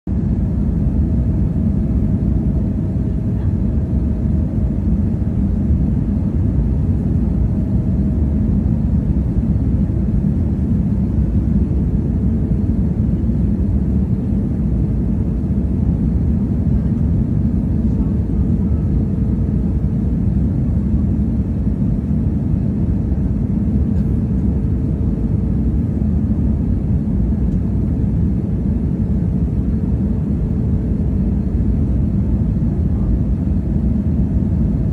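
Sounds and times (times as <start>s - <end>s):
airliner engine rumble: 0.1s - 34.9s
faint hum: 0.1s - 34.9s.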